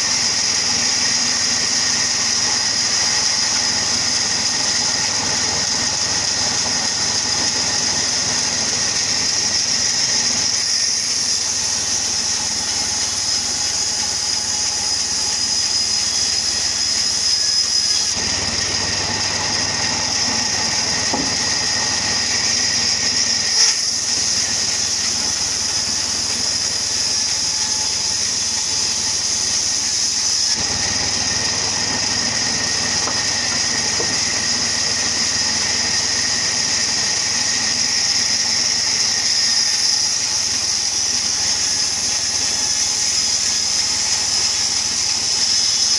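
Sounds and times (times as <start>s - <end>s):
wood-cutting machine whining: 0.0s - 45.9s.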